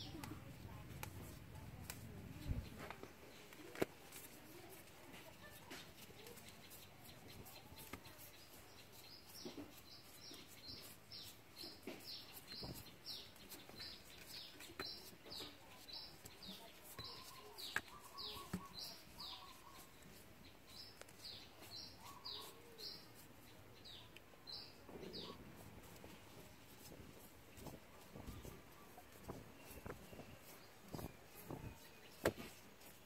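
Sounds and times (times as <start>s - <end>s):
faint bird chirping: 0.0s - 33.0s.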